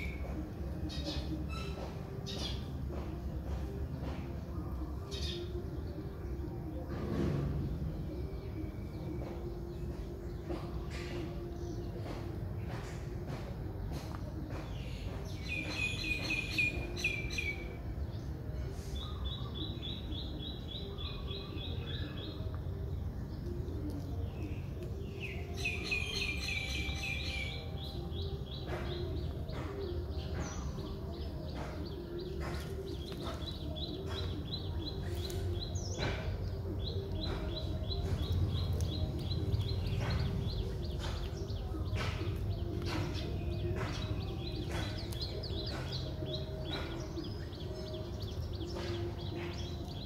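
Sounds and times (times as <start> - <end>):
birds chirping and singing: 0.0 - 50.0.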